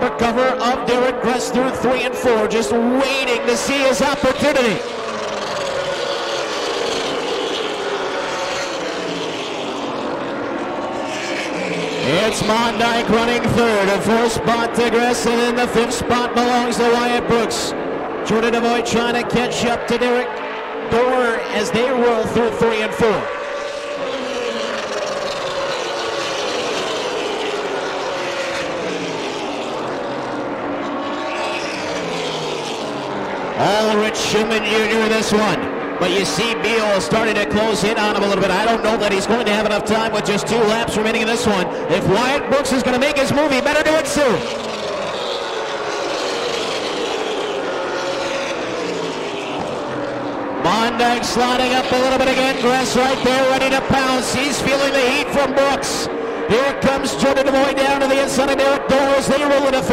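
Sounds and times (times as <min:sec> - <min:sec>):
racing car engines: 0:00.0 - 0:59.9.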